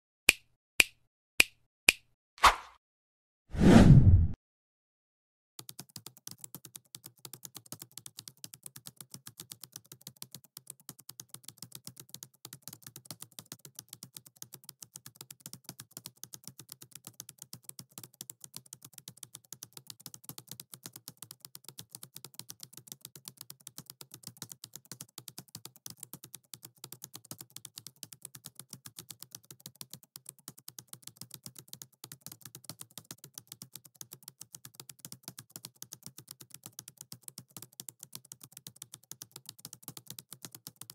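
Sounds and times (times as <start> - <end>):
fast computer keyboard typing: 5.6 - 40.9.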